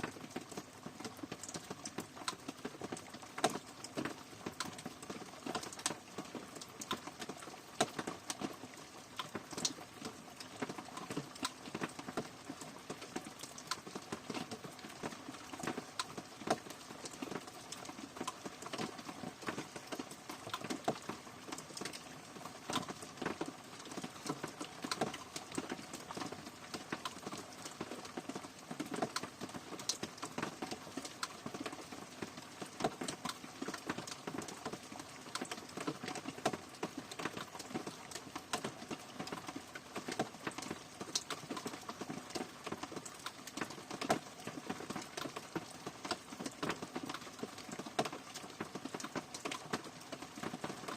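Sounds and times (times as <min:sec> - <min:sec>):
raindrops tapping on hard surface: 0:00.0 - 0:50.9.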